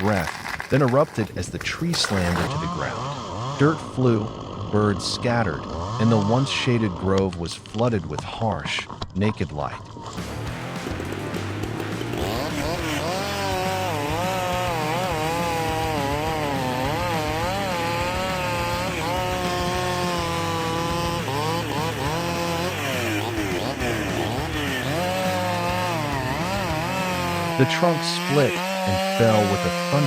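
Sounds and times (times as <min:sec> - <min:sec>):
chainsaw cutting: 0:00.0 - 0:07.2, 0:10.2 - 0:30.0.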